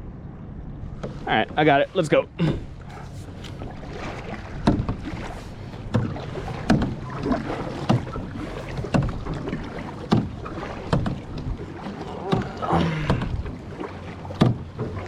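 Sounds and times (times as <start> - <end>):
paddle knocking: 2.4 - 15.0
paddle splashing in water: 2.4 - 15.0.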